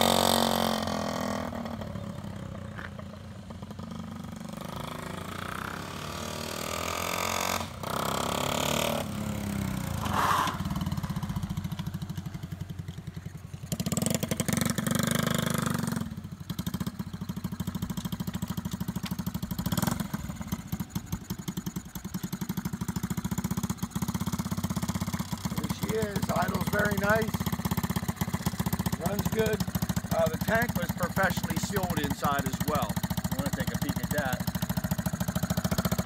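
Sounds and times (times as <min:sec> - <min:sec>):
small motorcycle engine: 0:00.0 - 0:36.0.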